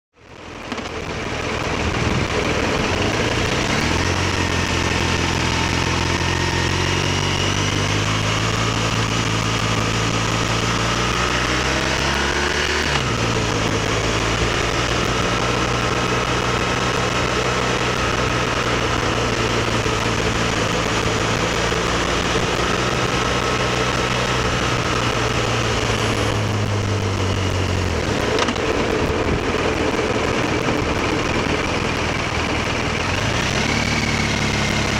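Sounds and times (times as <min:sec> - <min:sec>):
wind and road noise: 0:00.1 - 0:34.9
motorcycle engine accelerating: 0:00.2 - 0:34.9.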